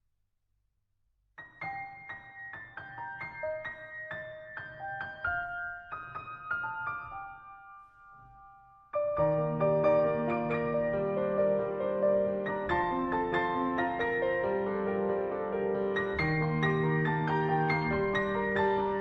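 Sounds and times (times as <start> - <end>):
slow piano melody: 1.4 - 19.0.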